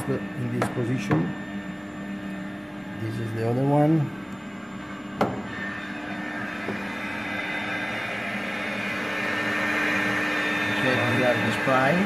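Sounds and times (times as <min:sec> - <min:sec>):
test chamber whirring and humming: 0:00.0 - 0:12.0.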